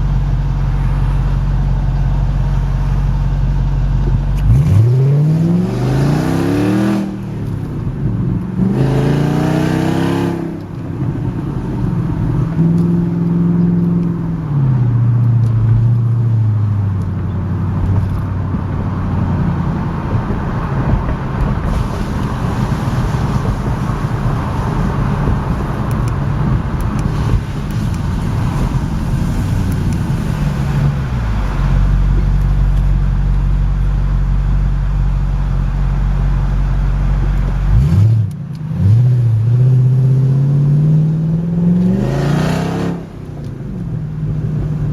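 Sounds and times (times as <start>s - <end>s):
car engine without mufflers: 0.0s - 44.9s.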